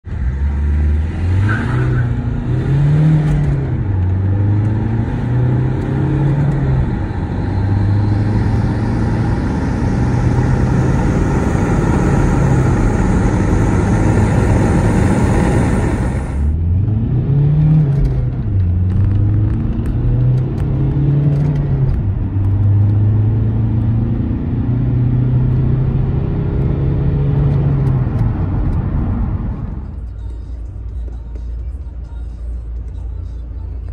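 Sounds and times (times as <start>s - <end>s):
diesel engine accelerating: 0.0s - 33.9s.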